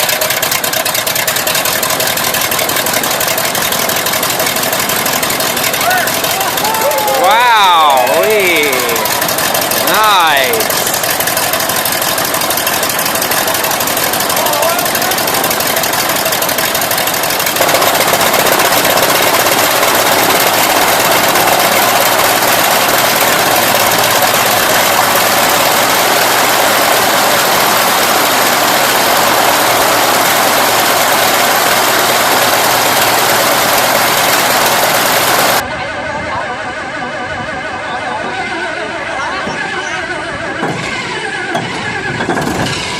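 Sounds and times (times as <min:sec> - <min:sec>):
large engine running: 0:00.0 - 0:36.7, 0:37.3 - 0:42.9
quieter engine sound: 0:00.0 - 0:42.2.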